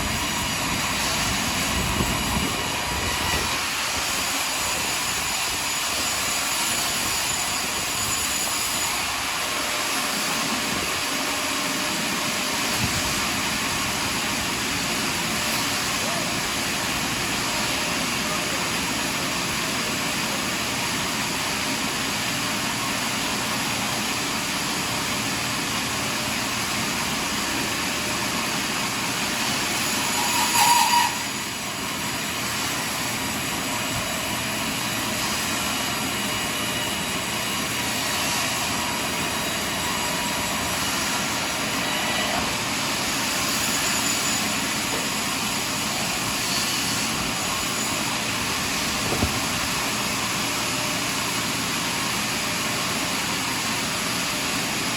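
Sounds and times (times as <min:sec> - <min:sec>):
machine whine: 0:00.0 - 0:54.9
sawmill sawing log: 0:00.0 - 0:54.9.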